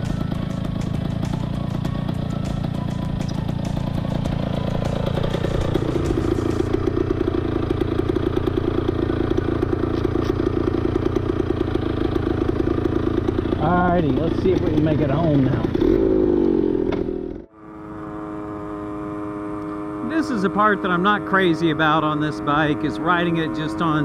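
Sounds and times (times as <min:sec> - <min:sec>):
two-stroke motorcycle engine: 0:00.0 - 0:24.0.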